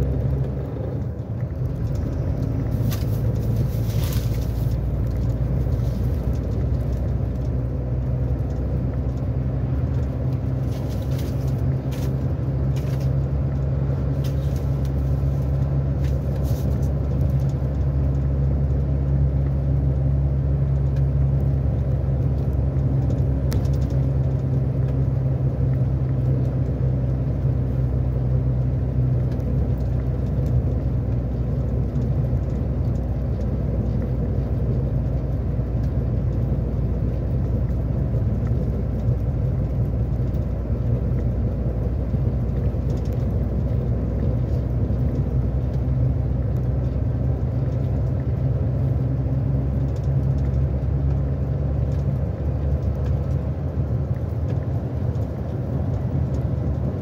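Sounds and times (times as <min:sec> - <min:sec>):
road and tyre noise: 0:00.0 - 0:57.0
truck diesel engine droning: 0:00.0 - 0:57.0.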